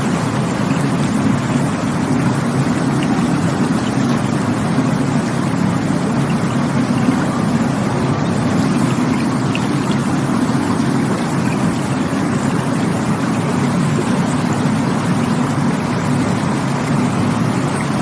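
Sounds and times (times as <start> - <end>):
rushing water flowing: 0.0 - 18.0.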